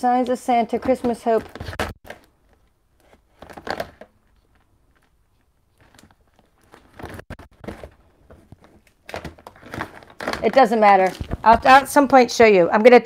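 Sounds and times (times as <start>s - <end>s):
craft supplies rustling and knocking: 0.7s - 12.2s.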